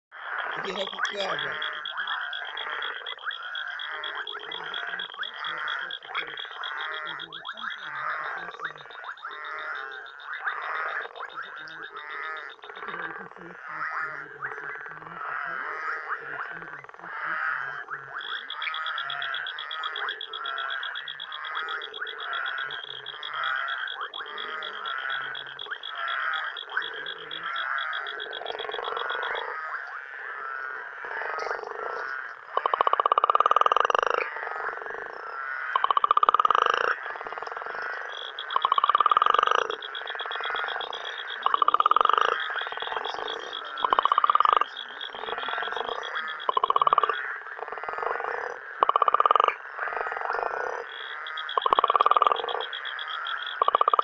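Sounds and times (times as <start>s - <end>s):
frogs croaking: 0.1s - 54.0s.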